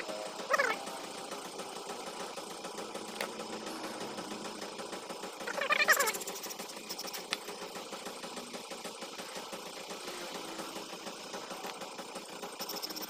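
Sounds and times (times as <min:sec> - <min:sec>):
faint engine running: 0:00.0 - 0:13.0.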